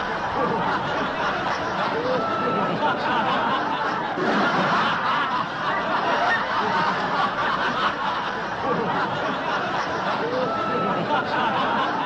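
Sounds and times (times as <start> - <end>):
crowd shouting and cheering: 0.0 - 12.0.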